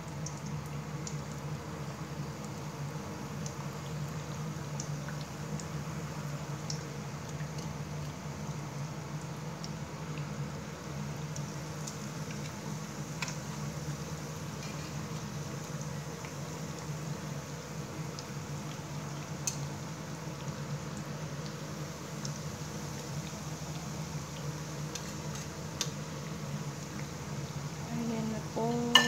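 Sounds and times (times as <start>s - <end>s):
oil sizzling and bubbling: 0.0s - 29.0s.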